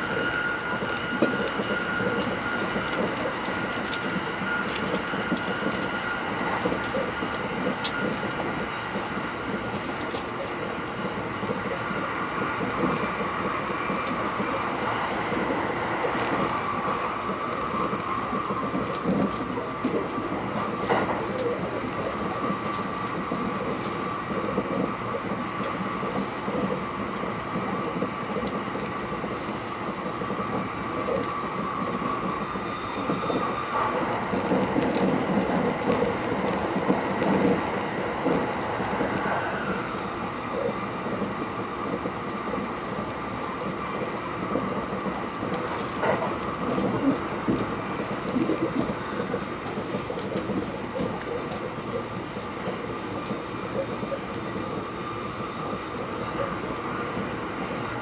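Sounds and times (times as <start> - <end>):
faint train whine: 0.0 - 58.0
train wheels rumbling on rails: 0.0 - 58.0.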